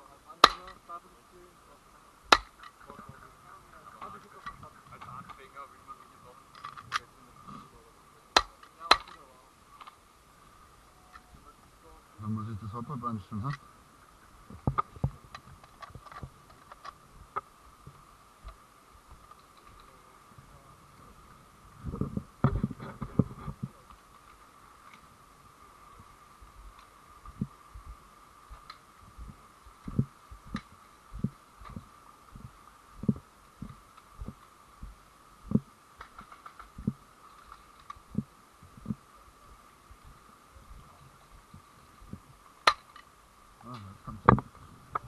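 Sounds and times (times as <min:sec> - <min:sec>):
faint high whine: 0:00.0 - 0:45.0
faint high-pitched hum: 0:00.0 - 0:45.0.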